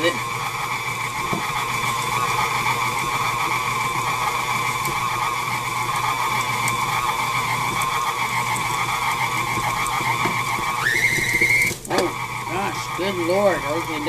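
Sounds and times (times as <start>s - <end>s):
beater churning stiff dough: 0.0s - 14.0s
stand mixer motor whine: 0.0s - 14.0s.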